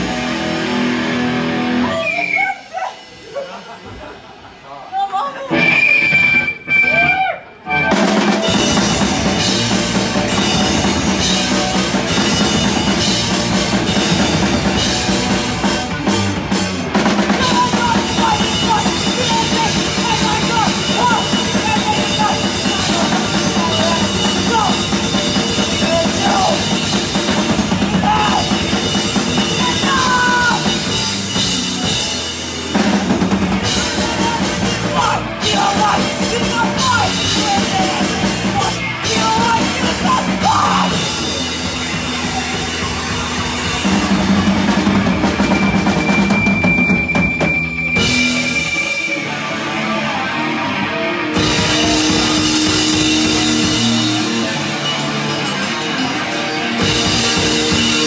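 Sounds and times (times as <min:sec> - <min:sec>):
rock band playing loudly: 0:00.0 - 0:04.8, 0:05.4 - 0:58.0.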